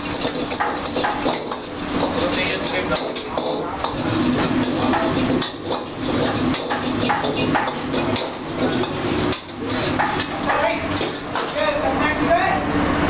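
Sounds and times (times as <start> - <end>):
metal ladle scraping a wok: 0.0 - 11.3
gas burner rushing: 0.0 - 13.0.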